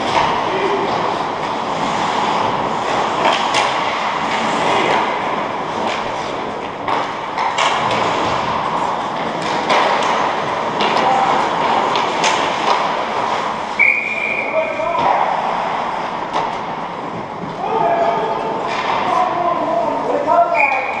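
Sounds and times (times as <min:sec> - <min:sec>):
hockey sticks and puck clacking: 0:00.0 - 0:21.0
skates scraping on ice: 0:00.0 - 0:21.0.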